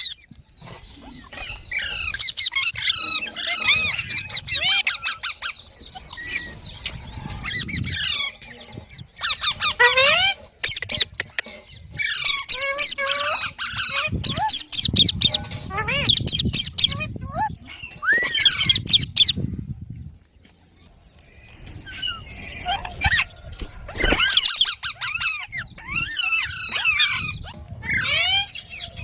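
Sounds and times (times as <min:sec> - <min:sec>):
parrot chirping and squawking: 0:00.0 - 0:19.5, 0:21.5 - 0:29.0.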